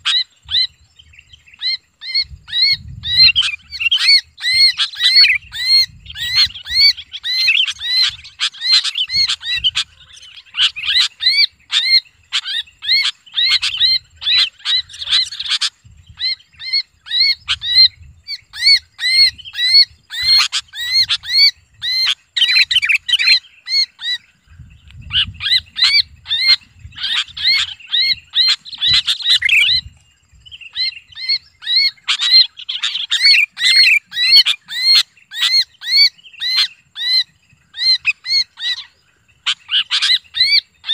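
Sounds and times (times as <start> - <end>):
bird harsh distress screams: 1.6 - 24.3, 25.1 - 29.9, 30.7 - 40.9.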